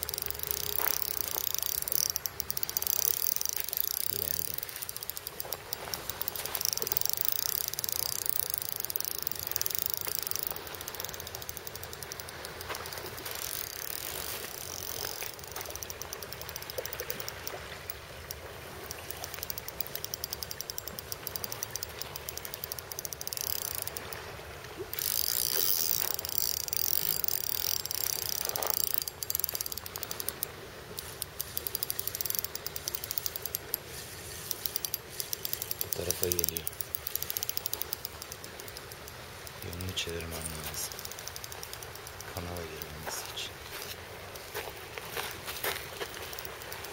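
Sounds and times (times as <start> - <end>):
spinning reel ticking: 0.0 - 24.3, 24.9 - 46.9.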